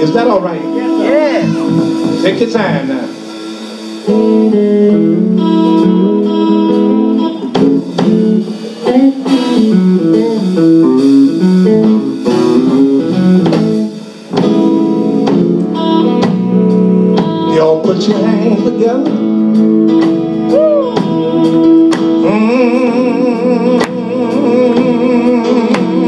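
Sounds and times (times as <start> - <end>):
guitar picking melody: 0.0 - 26.0
live band music: 0.0 - 26.0.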